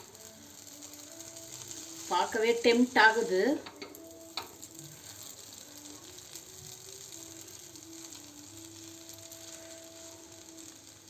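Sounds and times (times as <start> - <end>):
faint tune: 0.0 - 11.0
noodles sizzling in pan: 0.0 - 11.0.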